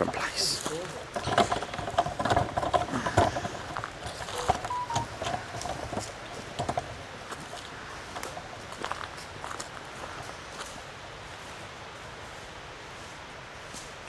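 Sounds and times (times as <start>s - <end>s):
footsteps on rough ground: 0.0s - 14.0s.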